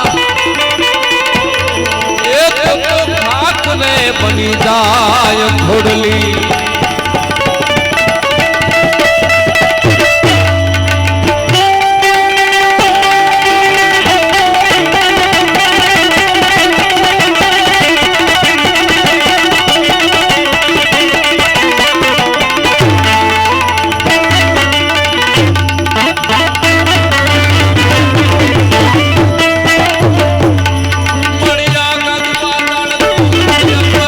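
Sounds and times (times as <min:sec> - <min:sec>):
melody instrument playing: 0:00.0 - 0:17.4, 0:21.7 - 0:33.9
hand drum: 0:00.0 - 0:34.0.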